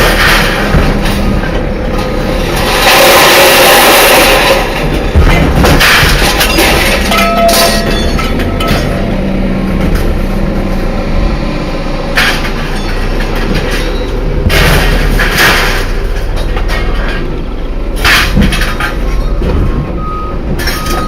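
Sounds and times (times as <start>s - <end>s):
vehicle rattling rumble: 0.0s - 21.0s.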